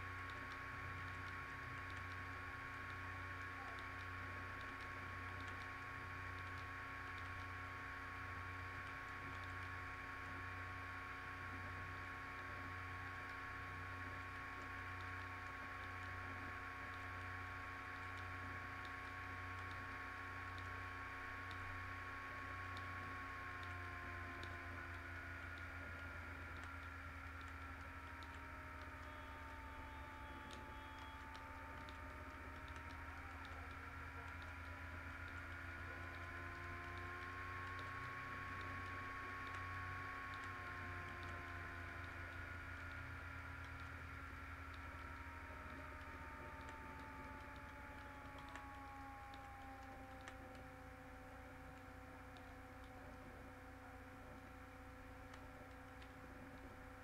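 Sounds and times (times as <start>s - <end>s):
electrical hum: 0.0s - 57.0s
low pulsing throb: 0.0s - 57.0s.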